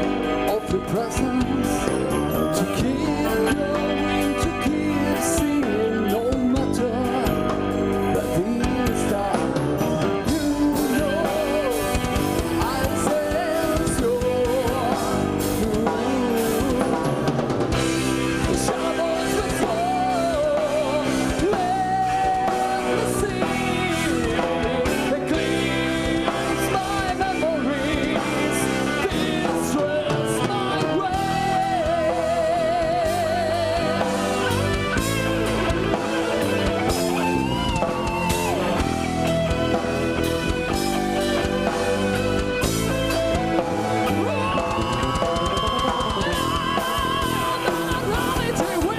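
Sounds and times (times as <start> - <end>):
drum kit: 0.0 - 48.9
electric guitars: 0.0 - 48.9.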